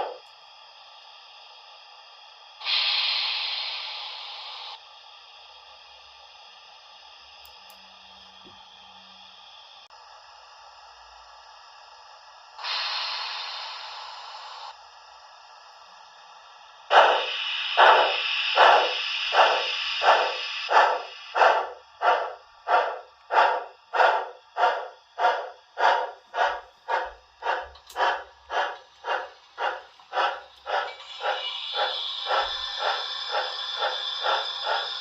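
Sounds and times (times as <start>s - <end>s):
model locomotive chuffing: 0.0s - 35.0s
steam hiss from small speaker: 0.0s - 35.0s.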